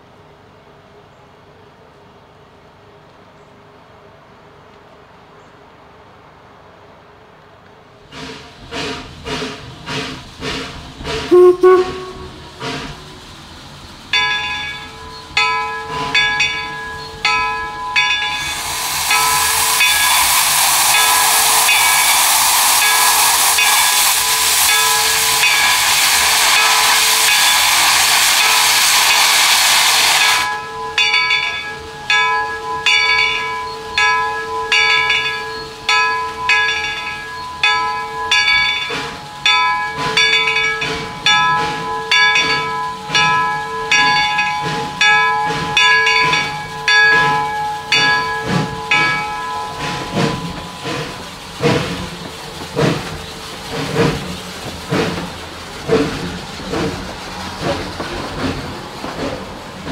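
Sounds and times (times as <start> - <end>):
steam venting hiss: 8.0 - 59.9
steam locomotive bell ringing: 11.2 - 59.9.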